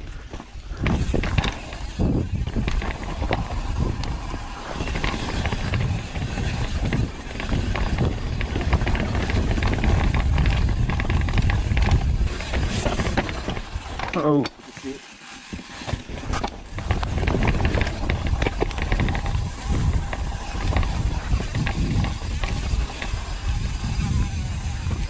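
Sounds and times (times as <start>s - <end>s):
wind on microphone: 0.0s - 14.1s, 15.9s - 25.0s
bike rattling and clattering: 0.0s - 25.0s
tyres rumbling over dirt: 0.0s - 25.0s.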